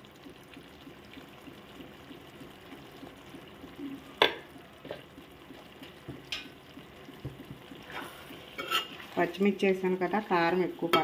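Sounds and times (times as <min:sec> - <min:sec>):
faint pan on stove: 0:00.0 - 0:11.0.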